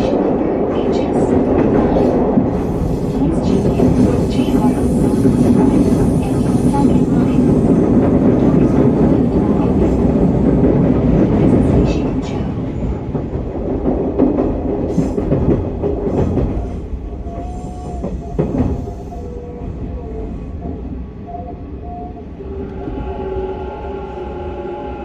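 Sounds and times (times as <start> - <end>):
train wheels rolling on rails: 0.0 - 21.3.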